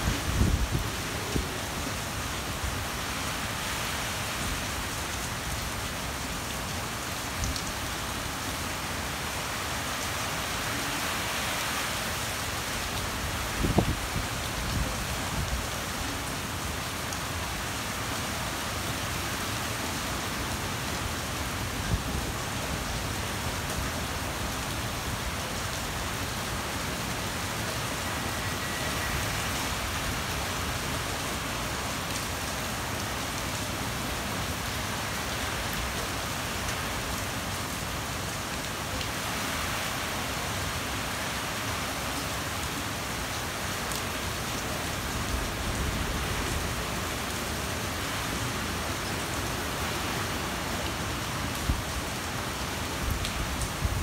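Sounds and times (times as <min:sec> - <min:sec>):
heavy rain and wind: 0:00.0 - 0:54.0.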